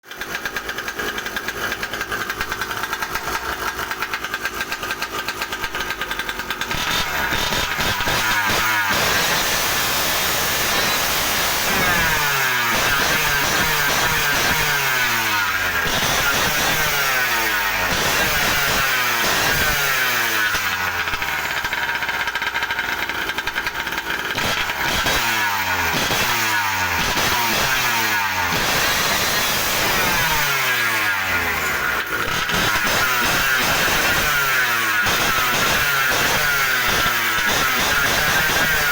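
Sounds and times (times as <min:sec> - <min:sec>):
scooter engine revving: 0:00.0 - 0:38.9.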